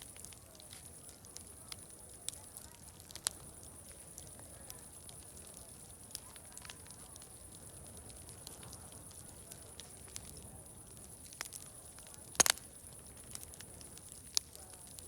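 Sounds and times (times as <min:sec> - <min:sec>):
distant crowd chatter: 0:00.0 - 0:15.0
fire crackling and popping: 0:00.0 - 0:15.0.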